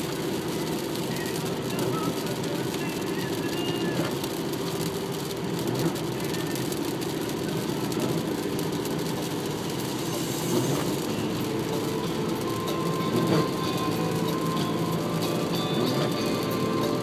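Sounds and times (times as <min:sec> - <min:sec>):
car cabin road noise on wet road: 0:00.0 - 0:17.0.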